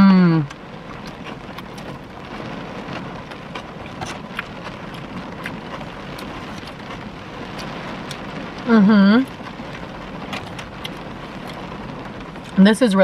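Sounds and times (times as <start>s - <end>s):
rain on a car roof: 0.0s - 13.0s.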